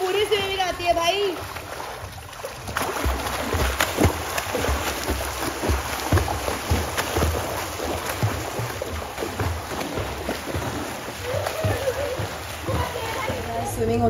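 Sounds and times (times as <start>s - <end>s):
pool water splashing: 0.0s - 14.0s.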